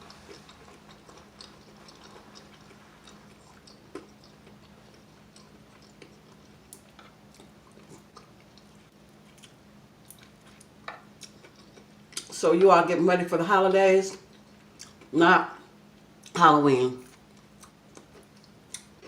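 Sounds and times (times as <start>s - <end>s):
chewing crispy fried chicken: 0.0s - 12.4s, 14.1s - 16.4s, 17.0s - 19.0s.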